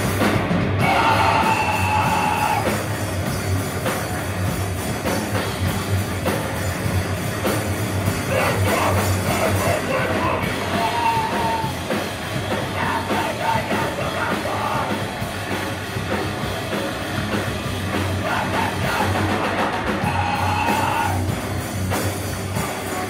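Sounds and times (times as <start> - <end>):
yelled vocals: 0.0 - 3.3, 5.0 - 21.6
distorted guitars: 0.0 - 23.0
drums: 0.0 - 23.0.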